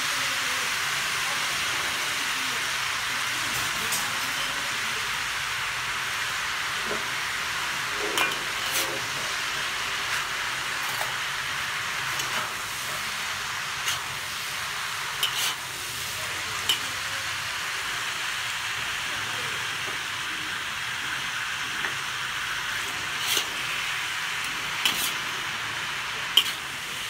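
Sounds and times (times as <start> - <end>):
food sizzling in a wok: 0.0 - 27.0.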